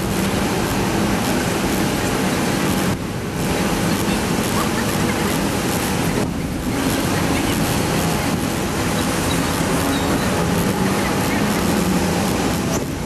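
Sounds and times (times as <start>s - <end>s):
heavy diesel engine rumbling: 0.0s - 13.0s
loud rushing noise: 0.0s - 13.0s.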